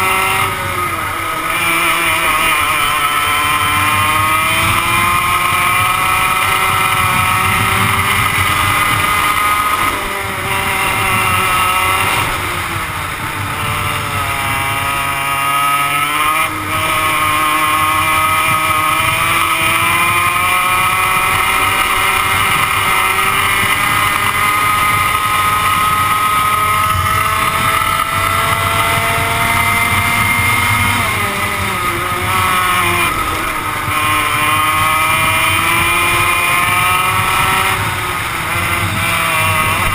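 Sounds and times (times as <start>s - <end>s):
two-stroke kart engine revving: 0.0s - 39.9s.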